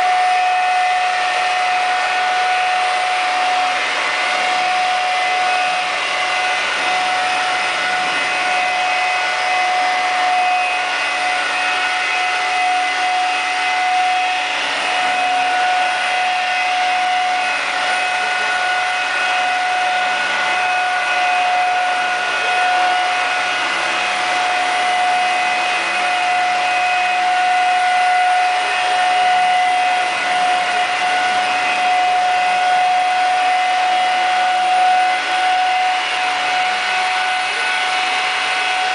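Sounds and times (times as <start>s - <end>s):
rc helicopter motor whine: 0.0s - 38.9s
rotor noise: 0.0s - 38.9s.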